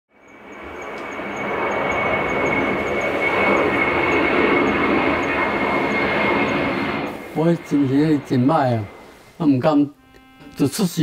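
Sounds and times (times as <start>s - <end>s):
airplane engine roar with whine: 0.1s - 11.0s.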